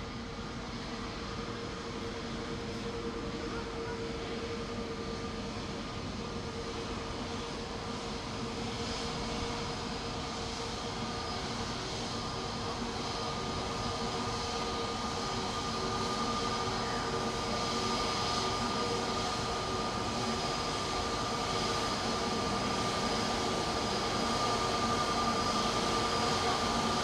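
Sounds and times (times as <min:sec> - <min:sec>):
jet engines humming with whine: 0:00.0 - 0:27.0.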